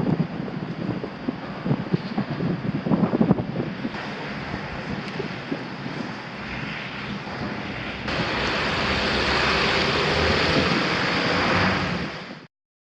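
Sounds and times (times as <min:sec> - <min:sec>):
blizzard wind on microphone: 0:00.0 - 0:12.5.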